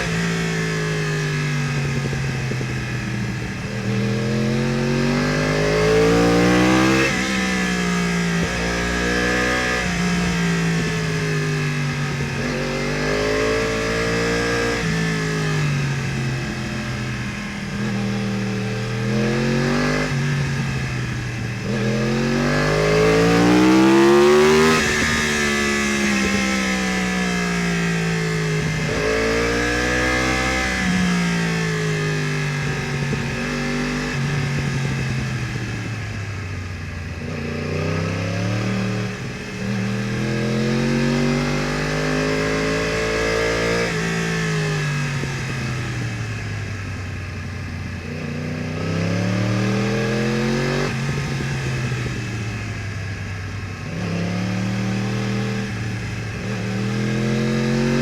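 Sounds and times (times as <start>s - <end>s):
motorcycle accelerating: 0.0s - 58.0s.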